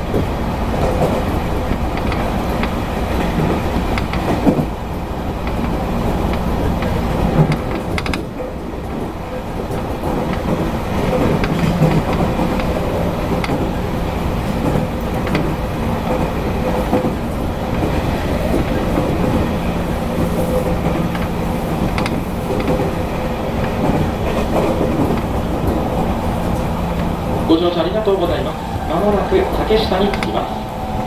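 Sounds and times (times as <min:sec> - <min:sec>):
train wheels rumbling on rail: 0:00.0 - 0:31.0
wheels clicking over rail joints: 0:00.0 - 0:31.0.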